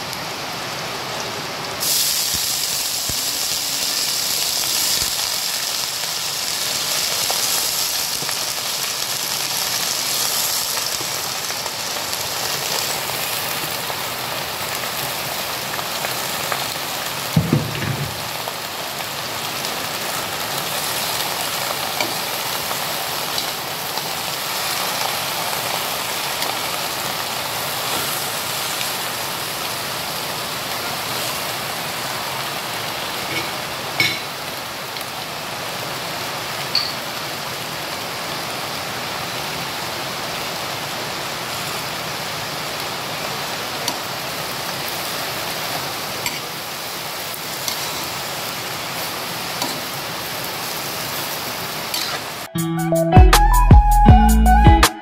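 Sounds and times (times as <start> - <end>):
food sizzling in hot oil: 0.3 - 52.5.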